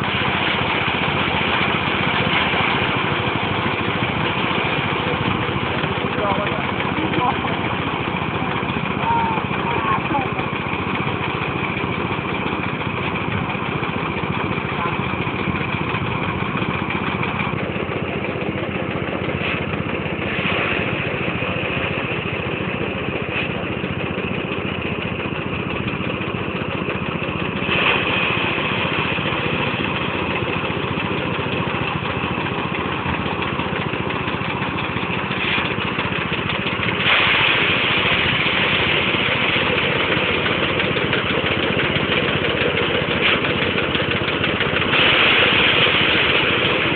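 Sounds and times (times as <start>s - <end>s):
diesel engine running: 0.0s - 46.9s
thresher drum threshing: 0.0s - 46.9s.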